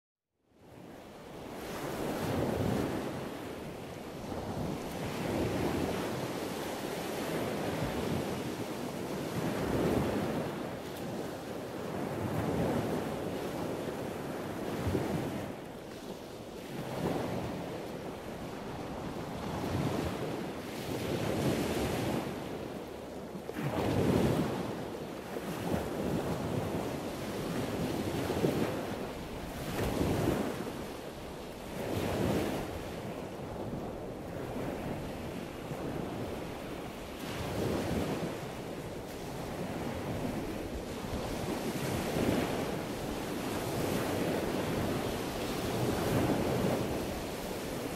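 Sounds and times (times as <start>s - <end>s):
wind buffeting the microphone: 0.6s - 47.9s.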